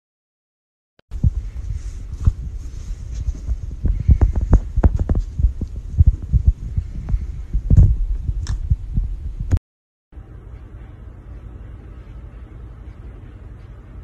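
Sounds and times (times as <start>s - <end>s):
low hum: 1.1s - 9.6s, 10.2s - 14.0s.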